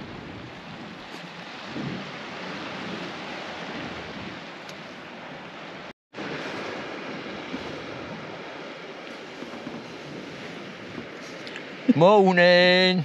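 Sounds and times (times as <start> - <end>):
wind on microphone: 0.0 - 12.0
sea waves washing: 0.0 - 13.0.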